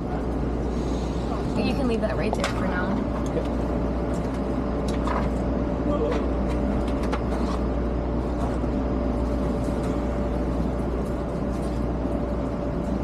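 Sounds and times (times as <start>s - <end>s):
train car rumble and hum: 0.0s - 13.0s.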